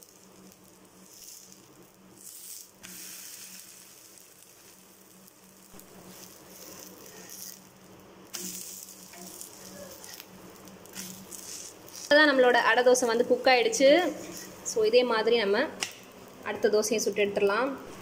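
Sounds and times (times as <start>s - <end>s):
dosa sizzling in oil: 0.0s - 17.9s.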